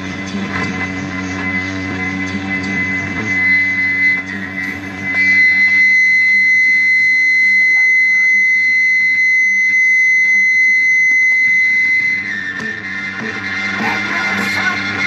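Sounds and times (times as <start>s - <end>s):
loud steady high tone: 0.0s - 15.0s
low droning layer: 0.0s - 15.0s.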